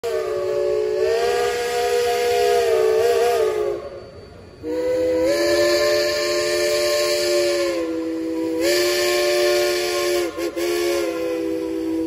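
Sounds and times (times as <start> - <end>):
steam hissing: 0.0 - 12.0
steam locomotive chime whistle: 0.0 - 12.0.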